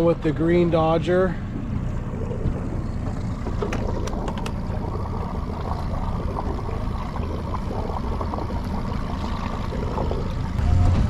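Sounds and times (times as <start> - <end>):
boat motor droning: 0.0 - 11.0
water lapping against hull: 0.2 - 10.6.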